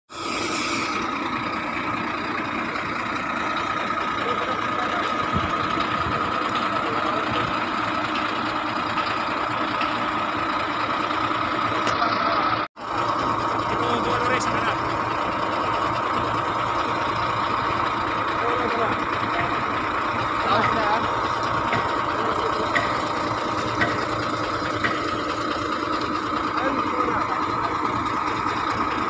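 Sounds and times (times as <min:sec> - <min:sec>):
heavy machinery engine running: 0:00.1 - 0:29.0.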